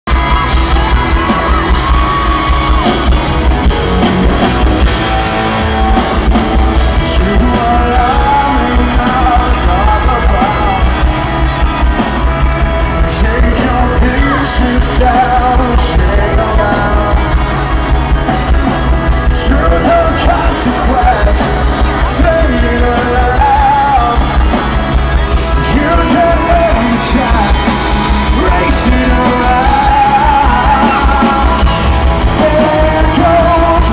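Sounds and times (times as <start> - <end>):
electric guitar: 0.1 - 33.9
live rock band: 0.1 - 33.9
man singing lead: 5.0 - 33.9.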